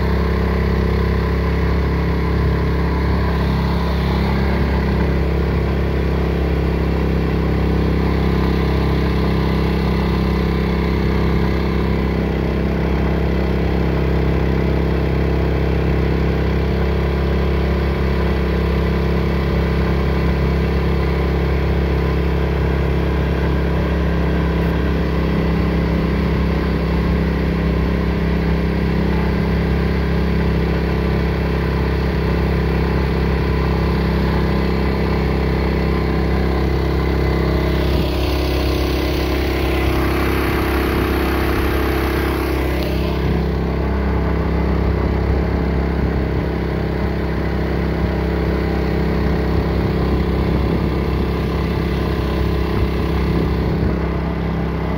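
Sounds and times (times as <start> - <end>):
boat motor running: 0.0 - 54.9.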